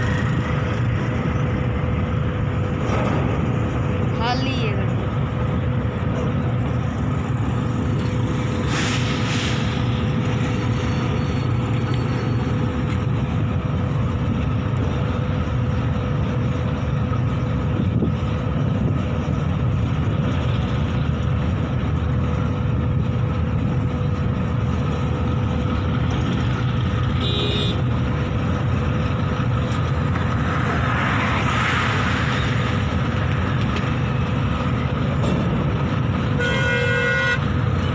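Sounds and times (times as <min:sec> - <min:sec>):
freight train wheels rumbling: 0:00.0 - 0:37.9.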